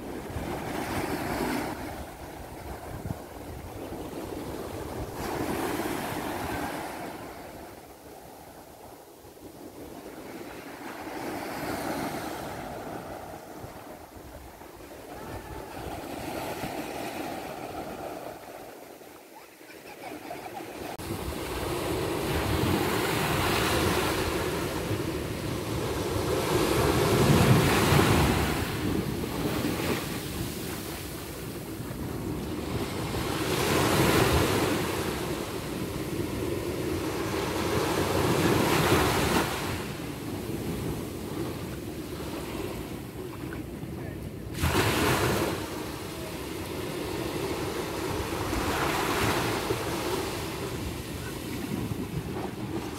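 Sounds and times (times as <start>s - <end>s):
small ocean waves breaking: 0.0s - 52.9s.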